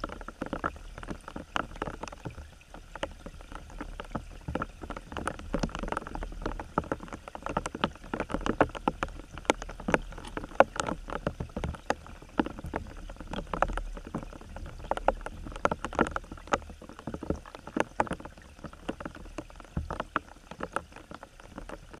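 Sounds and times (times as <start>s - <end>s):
low underwater rumble: 0.0s - 22.0s
underwater clicks and knocks: 0.0s - 22.0s.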